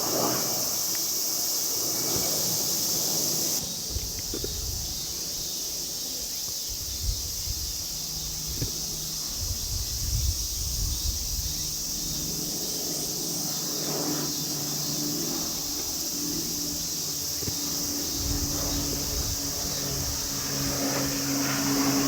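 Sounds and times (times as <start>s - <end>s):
distant turboprop aircraft hum: 0.0s - 22.0s
insects droning: 0.0s - 22.0s
wind rumbling on microphone: 1.8s - 22.0s.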